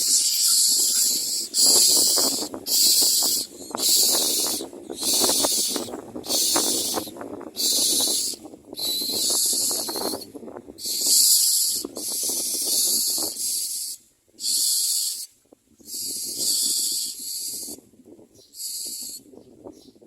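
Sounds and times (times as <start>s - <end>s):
nestlings hissing begging calls: 0.0s - 15.3s, 15.9s - 17.8s, 18.6s - 19.2s.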